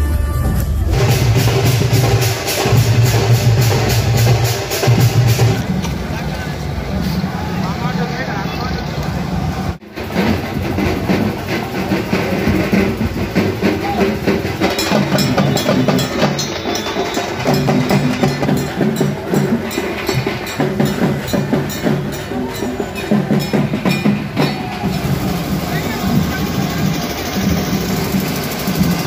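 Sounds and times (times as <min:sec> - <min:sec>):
procession music with drumming: 0:00.0 - 0:05.6, 0:09.9 - 0:29.0.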